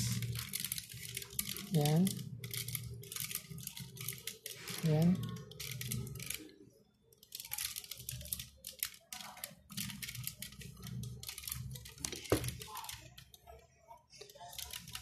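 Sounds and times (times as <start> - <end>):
plastic model parts clicking and creaking: 0.0 - 6.5, 7.1 - 13.6, 14.2 - 15.0.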